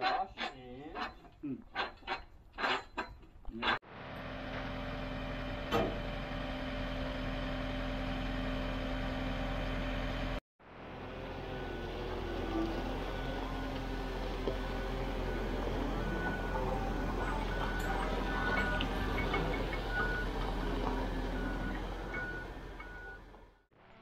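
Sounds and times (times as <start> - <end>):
travel lift engine running: 3.9 - 23.6.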